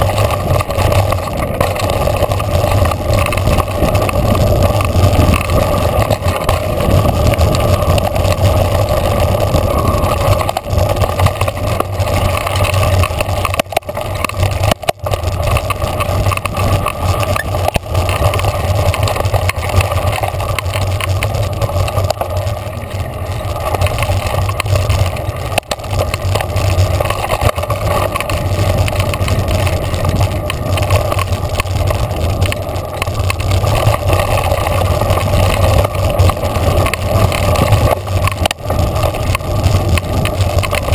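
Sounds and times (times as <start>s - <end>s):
tyres rolling over dirt: 0.0s - 40.9s
wind rumble on microphone: 0.0s - 40.9s.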